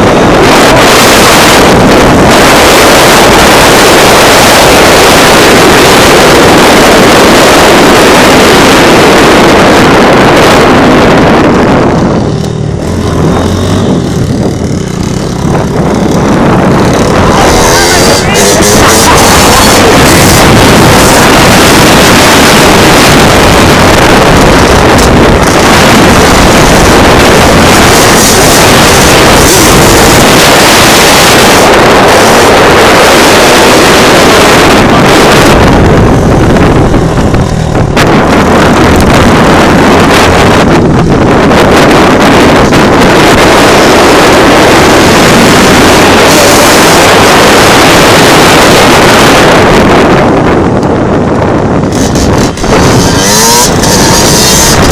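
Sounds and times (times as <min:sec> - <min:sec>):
dirt bike engine running: 0:00.0 - 0:54.9
wind on microphone: 0:00.0 - 0:54.9.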